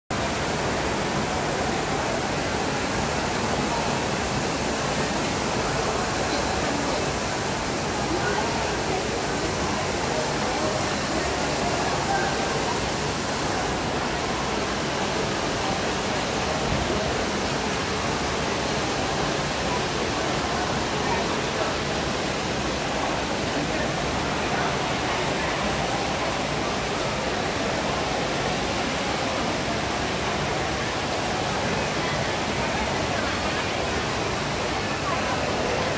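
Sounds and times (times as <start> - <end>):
crowd murmur in a hall: 0.1 - 35.9
hubbub of distant voices: 0.1 - 35.9.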